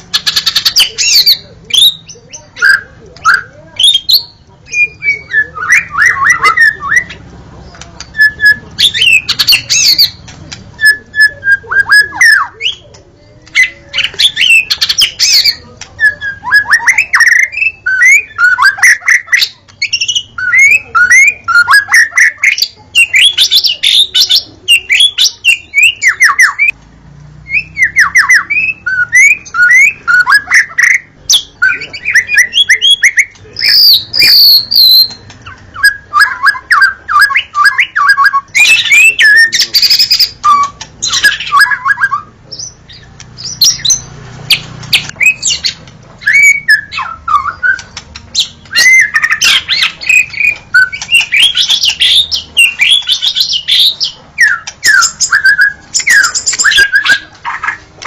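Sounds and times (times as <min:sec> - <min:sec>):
bird singing whistles and chatters: 0:00.0 - 0:26.8, 0:27.4 - 0:57.8.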